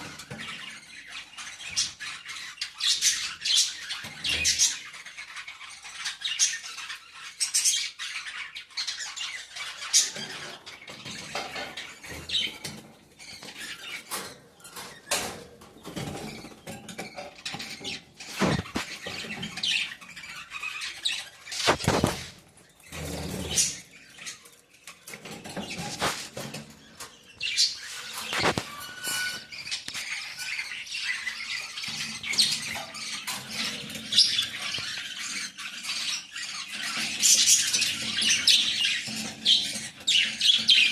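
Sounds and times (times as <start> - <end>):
parrots squawking and chirping: 0.0 - 40.9.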